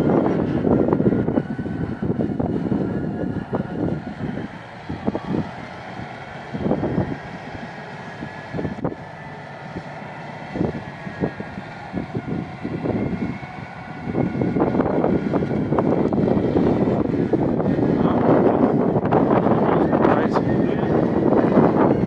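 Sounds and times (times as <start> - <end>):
distant bulldozer engine: 0.0 - 22.0
wind buffeting microphone: 0.0 - 22.0.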